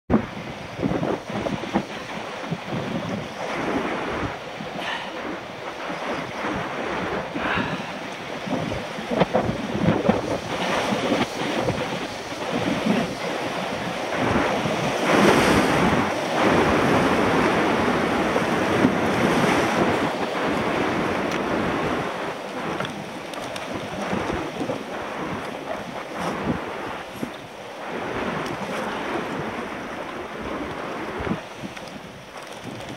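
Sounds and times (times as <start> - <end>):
surf washing onto beach: 0.1 - 32.9
wind buffeting microphone: 0.1 - 32.9.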